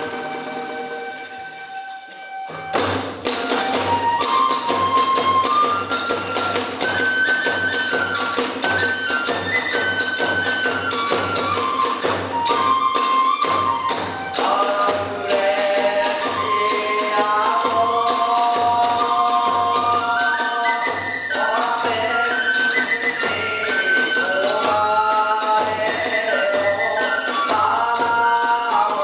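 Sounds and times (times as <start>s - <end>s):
bamboo flute melody: 0.0s - 29.0s.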